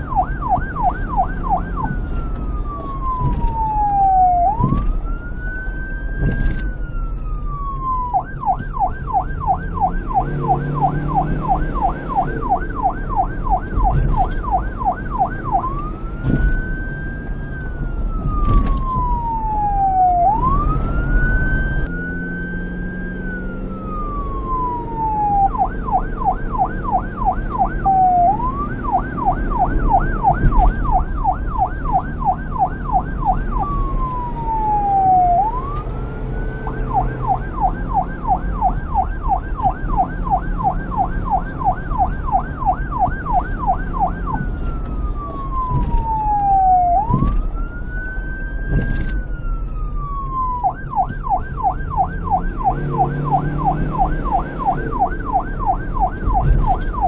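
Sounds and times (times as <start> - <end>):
police siren wailing and yelping: 0.0 - 57.0.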